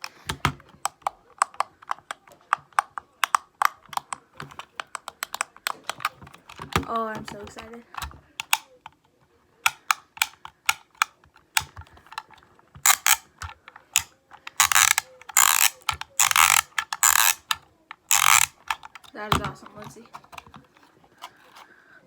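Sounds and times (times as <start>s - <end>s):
fidget cube clicking: 0.0s - 21.7s.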